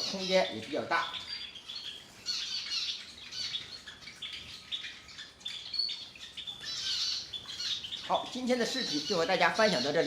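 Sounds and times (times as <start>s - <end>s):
finches chirping: 0.0s - 10.0s.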